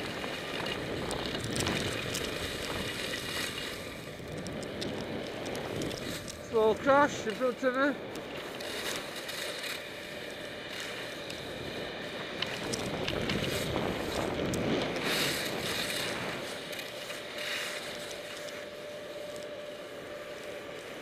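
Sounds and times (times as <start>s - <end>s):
wind rushing over microphone: 0.0s - 9.1s, 10.0s - 18.0s
skis scraping over packed snow: 0.0s - 21.0s
snow cannons humming: 0.0s - 21.0s.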